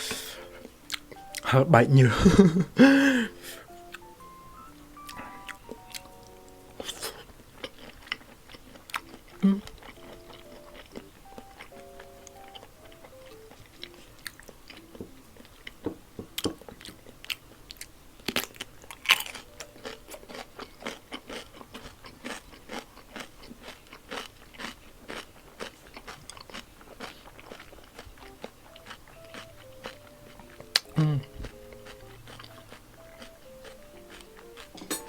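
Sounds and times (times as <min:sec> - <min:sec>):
faint background music: 0:00.0 - 0:35.0
rhythmic chewing: 0:00.0 - 0:35.0.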